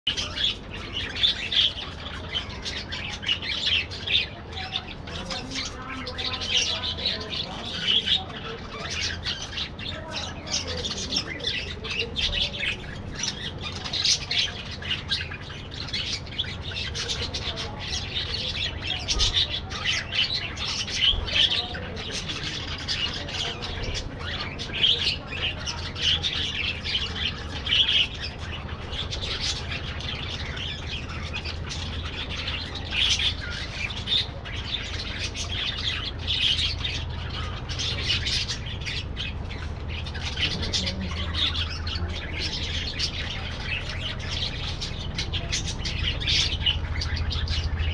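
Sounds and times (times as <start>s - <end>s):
budgerigars chattering: 0.1s - 47.9s.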